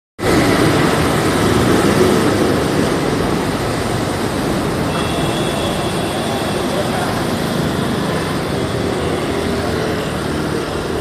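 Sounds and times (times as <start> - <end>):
road traffic rumble: 0.2 - 11.0.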